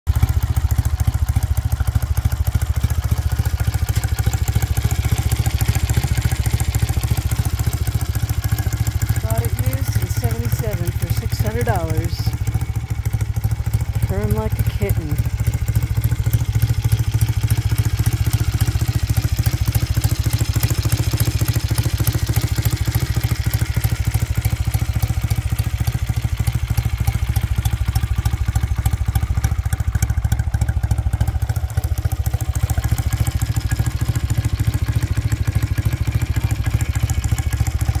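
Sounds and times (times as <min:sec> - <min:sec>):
motorcycle engine idling: 0:00.1 - 0:38.0.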